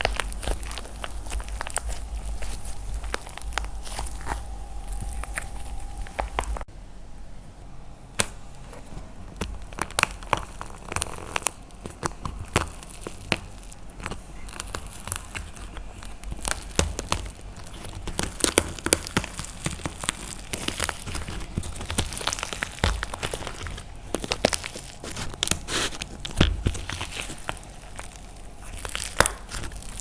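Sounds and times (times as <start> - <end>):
dried clay cracking by hand: 0.0 - 6.7, 8.2 - 30.0.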